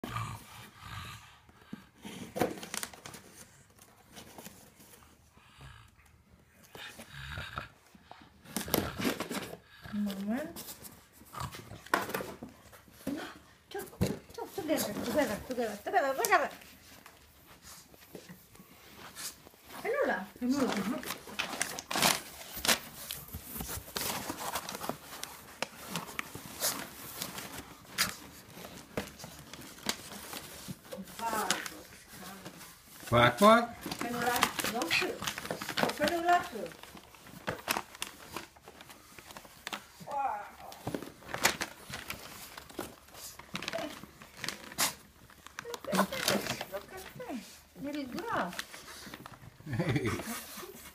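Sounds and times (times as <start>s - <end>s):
crinkling and rustling: 2.0s - 5.3s, 7.9s - 50.9s.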